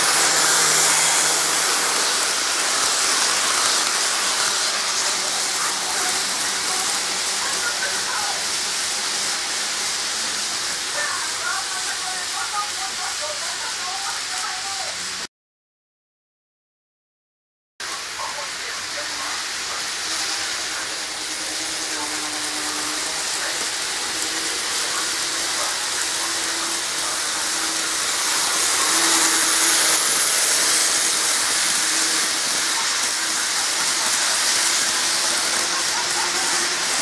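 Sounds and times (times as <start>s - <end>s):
model train running on track: 0.0s - 15.3s, 17.8s - 37.0s.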